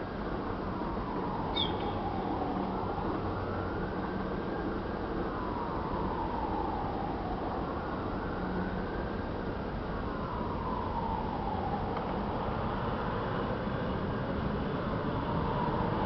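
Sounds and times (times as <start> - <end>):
siren wailing: 0.9 - 13.2, 14.9 - 16.0.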